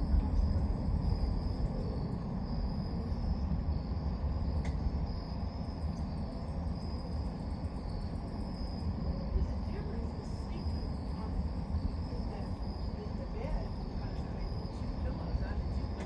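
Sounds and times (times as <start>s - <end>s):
insects chirping: 0.0s - 16.0s
steady low rumble: 0.0s - 16.0s.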